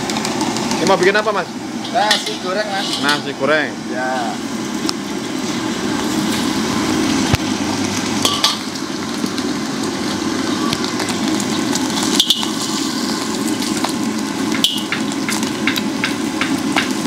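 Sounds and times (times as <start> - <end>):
egg sizzling in hot oil: 0.0 - 17.0.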